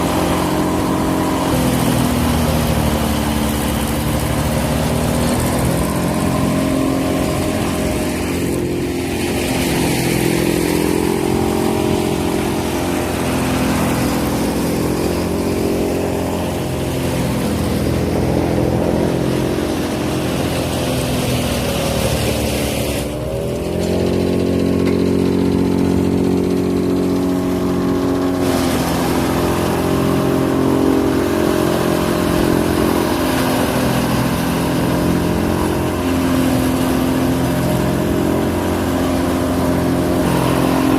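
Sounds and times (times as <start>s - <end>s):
farm machinery engine running: 0.0s - 40.9s.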